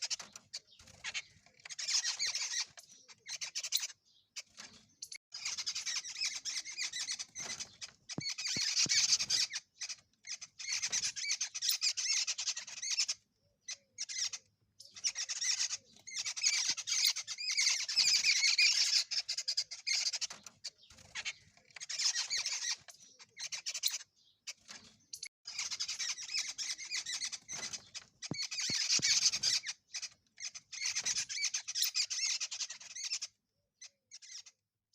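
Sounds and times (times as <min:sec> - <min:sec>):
harsh bird calls: 0:00.0 - 0:34.6.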